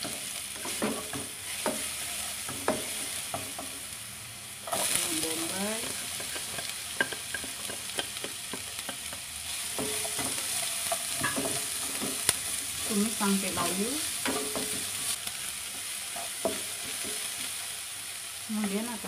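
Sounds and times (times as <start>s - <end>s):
garlic sizzling in oil: 0.0s - 19.0s.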